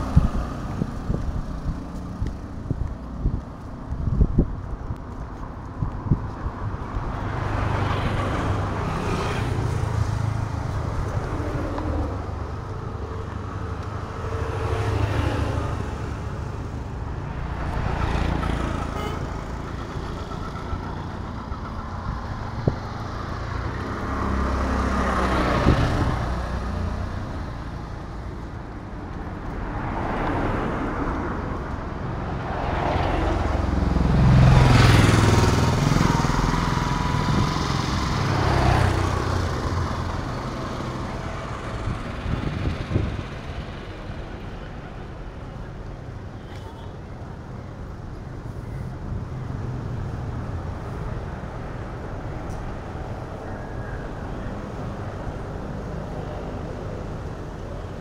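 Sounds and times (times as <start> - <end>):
low traffic rumble: 0.0 - 58.0
vehicles passing close by: 0.0 - 58.0.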